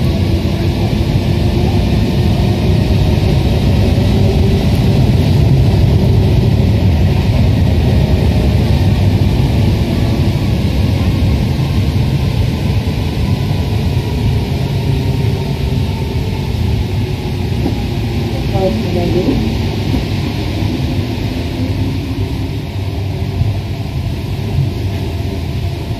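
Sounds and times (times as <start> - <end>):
train rumbling through tunnel: 0.0 - 25.9.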